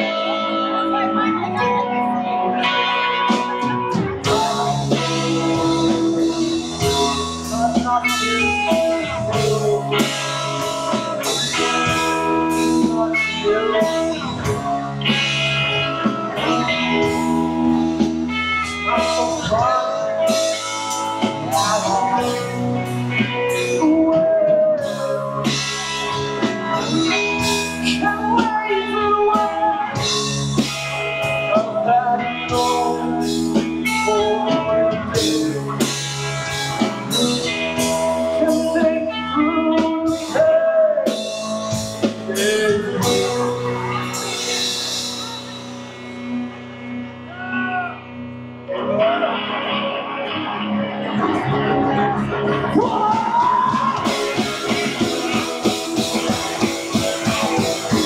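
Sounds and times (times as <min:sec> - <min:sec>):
electric bass: 0:00.0 - 0:58.0
electric guitars: 0:00.0 - 0:58.0
drum kit beat: 0:02.6 - 0:47.9, 0:51.2 - 0:58.0
lead vocal singing: 0:03.6 - 0:14.6, 0:18.6 - 0:45.3, 0:48.8 - 0:58.0.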